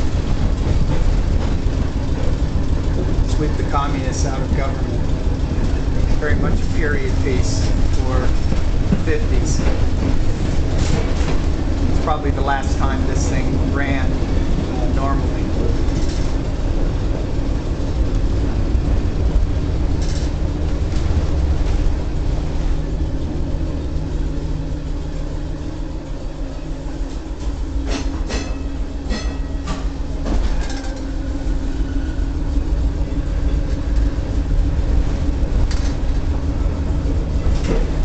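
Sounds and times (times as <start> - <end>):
trolley car rumbling: 0.0 - 38.0.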